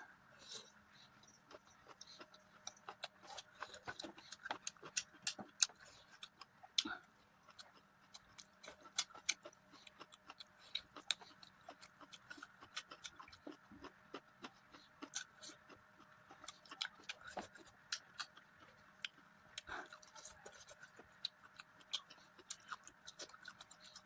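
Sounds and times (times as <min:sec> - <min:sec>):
wet chewing and lip smacking: 0:00.9 - 0:24.0.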